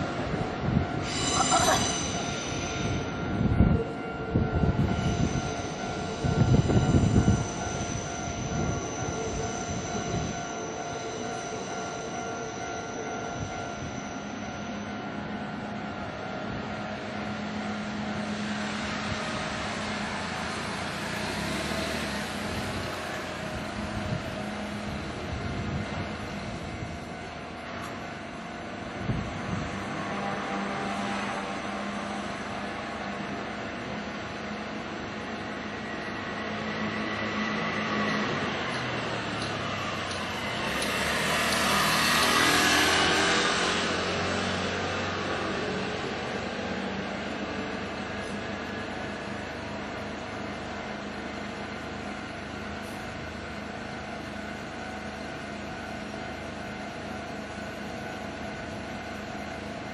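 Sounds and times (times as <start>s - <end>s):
train hum: 0.0s - 59.9s.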